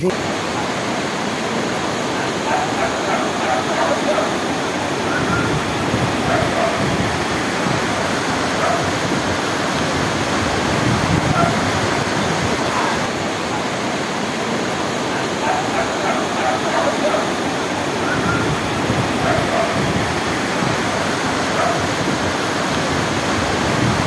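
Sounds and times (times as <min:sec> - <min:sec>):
floodwater roaring through street: 0:00.0 - 0:24.0.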